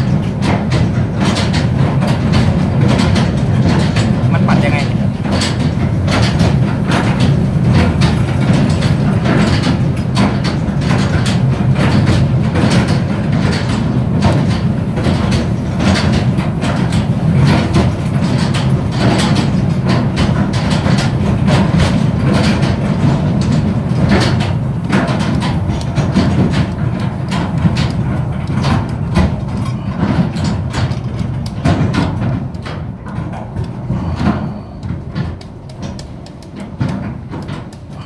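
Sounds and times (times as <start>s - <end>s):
metal clacks and knocks: 0.0s - 38.0s
ride machinery rumble: 0.0s - 38.0s.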